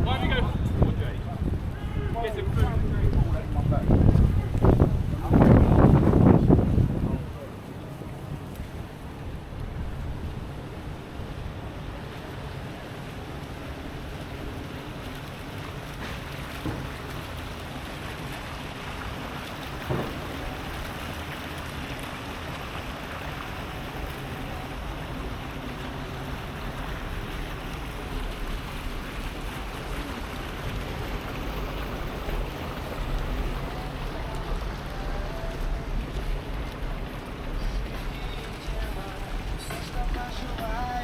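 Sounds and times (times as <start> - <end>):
distant urban noise: 0.0 - 41.0
rain: 0.0 - 41.0
wind rumble on microphone: 0.0 - 41.0.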